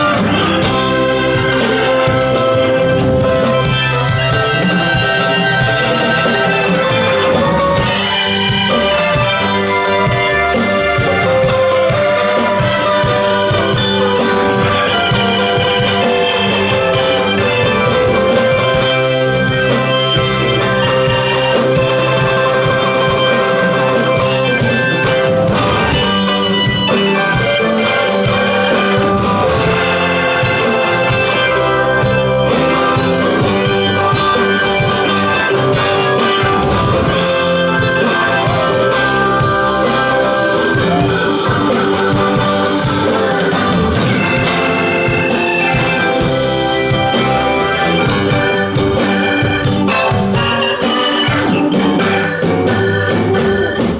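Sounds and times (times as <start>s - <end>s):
bass: 0.0s - 53.9s
drum kit: 0.0s - 53.9s
electric guitars: 0.0s - 53.9s
keyboards: 0.0s - 53.9s.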